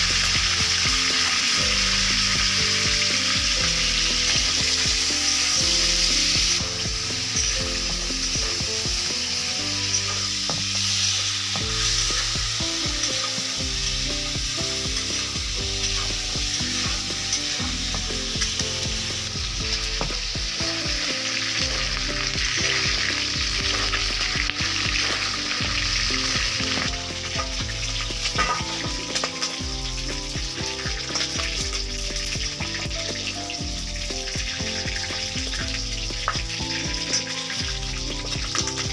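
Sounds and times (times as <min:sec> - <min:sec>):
chicken sizzling in hot oil: 0:00.0 - 0:38.9.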